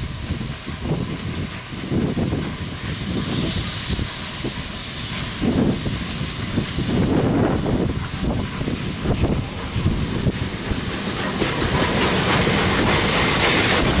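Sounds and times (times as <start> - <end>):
steam engine rumble and beat: 0.0 - 14.0
steam hissing from drain cocks: 0.0 - 14.0.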